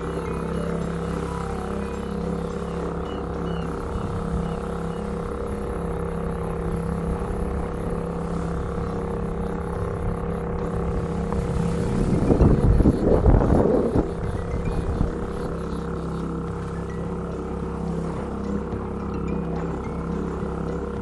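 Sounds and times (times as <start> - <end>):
small boat motor running: 0.0 - 21.0
water rushing: 0.0 - 21.0
wind: 0.0 - 21.0.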